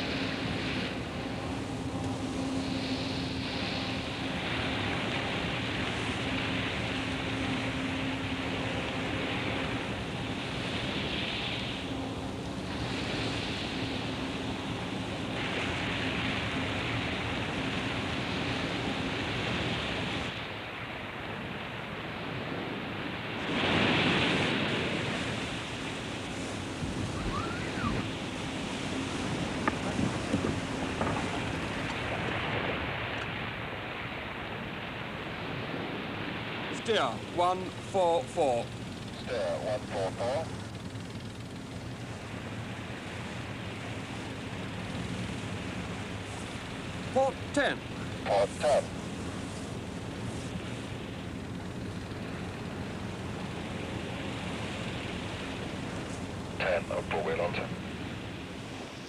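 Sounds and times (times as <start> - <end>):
steady hum: 0.0 - 59.0
wind and sea rush: 0.0 - 59.0.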